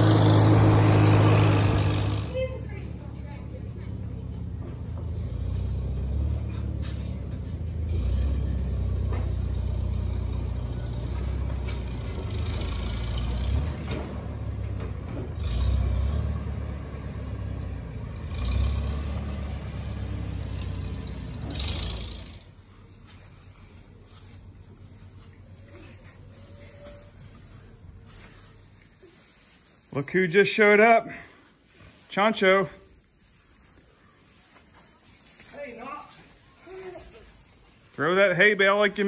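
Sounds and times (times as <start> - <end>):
tractor engine rumbling: 0.0 - 39.0.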